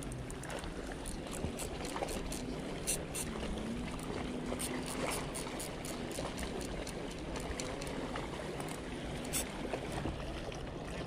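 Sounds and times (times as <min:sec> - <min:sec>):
water splashes: 0:00.0 - 0:11.0
waves lapping against rocks: 0:00.0 - 0:11.0.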